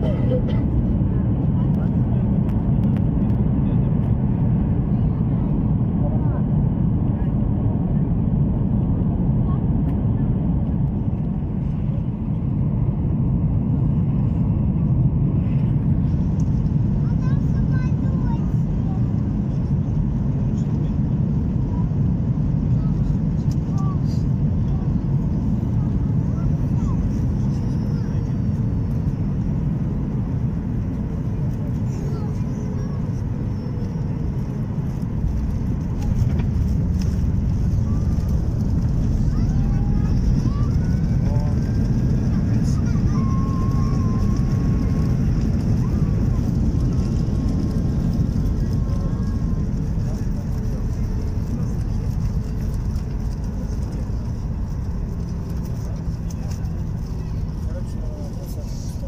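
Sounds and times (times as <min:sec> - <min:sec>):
jet engine rumble in cabin: 0:00.0 - 0:59.0.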